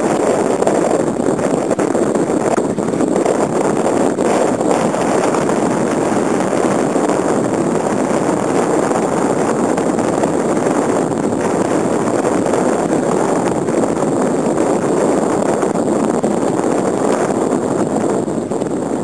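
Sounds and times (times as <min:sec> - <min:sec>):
water splashing along hull: 0:00.0 - 0:19.0
wind on microphone: 0:00.0 - 0:19.0.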